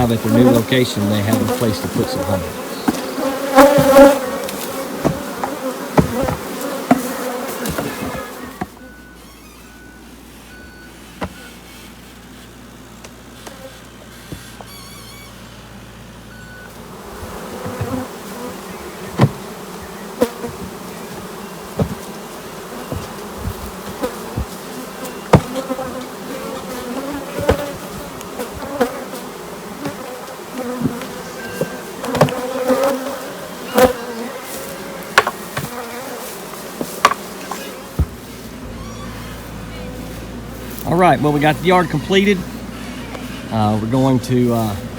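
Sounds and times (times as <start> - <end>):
bees buzzing: 0.0 - 44.9.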